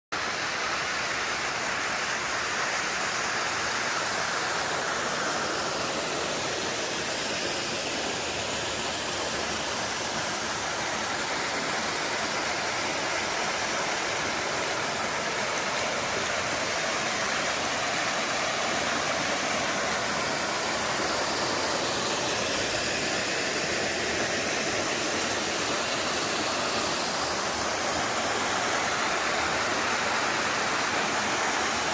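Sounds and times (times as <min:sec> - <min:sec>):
waterfall rushing: 0:00.2 - 0:31.9.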